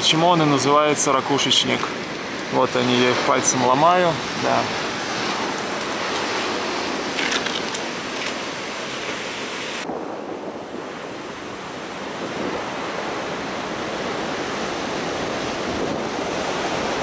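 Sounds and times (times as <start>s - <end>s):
rushing outdoor ambience: 0.0s - 17.0s.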